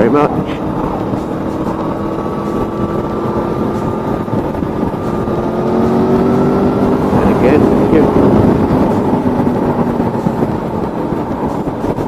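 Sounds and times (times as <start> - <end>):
motorcycle engine running: 0.0 - 12.0
rushing wind: 0.0 - 12.0.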